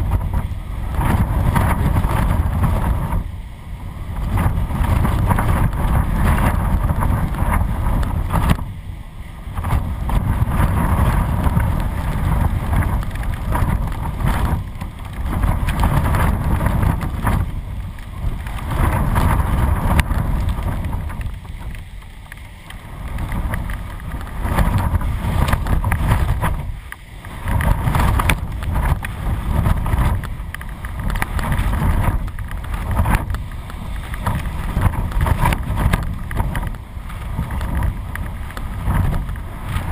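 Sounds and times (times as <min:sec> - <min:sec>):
gusty wind buffeting microphone: 0:00.0 - 0:39.9.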